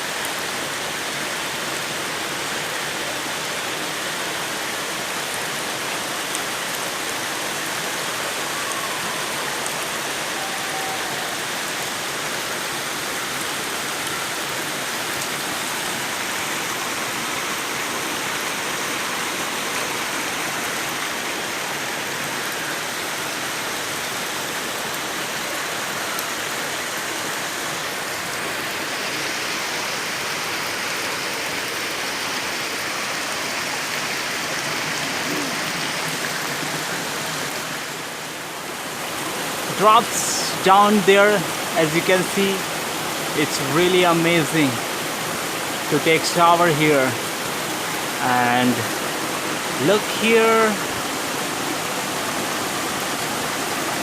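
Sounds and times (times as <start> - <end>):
waterfall pouring: 0.1 - 54.0.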